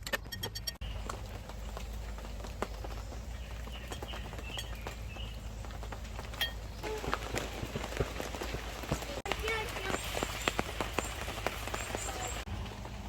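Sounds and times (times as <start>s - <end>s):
rain falling: 0.8s - 13.0s.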